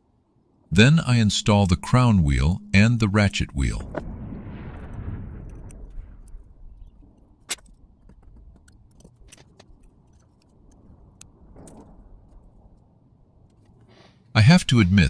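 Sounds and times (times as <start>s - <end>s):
faint low background noise: 0.0s - 15.0s.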